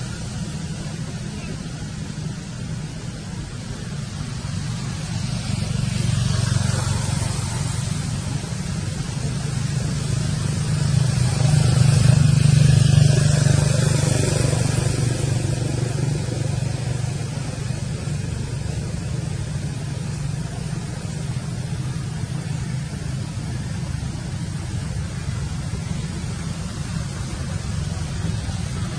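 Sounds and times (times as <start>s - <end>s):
vehicle engine passing by: 0.0s - 28.9s.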